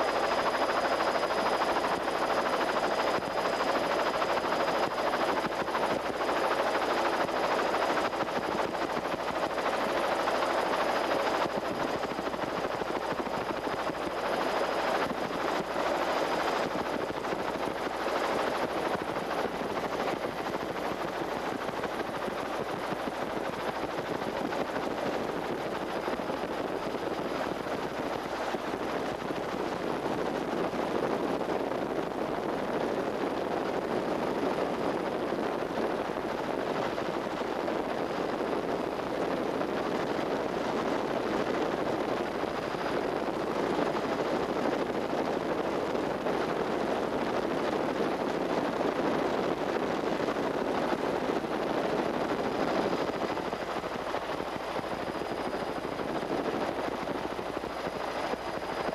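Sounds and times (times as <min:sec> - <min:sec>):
helicopter engine and rotor noise: 0:00.0 - 0:58.9.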